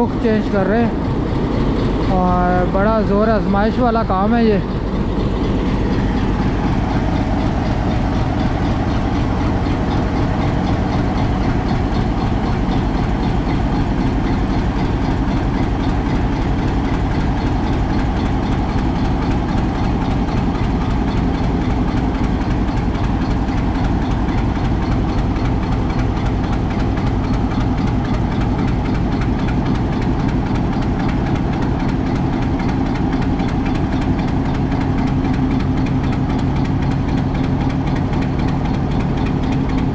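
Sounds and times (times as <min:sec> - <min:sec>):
locomotive engine idling: 0:00.0 - 0:39.9.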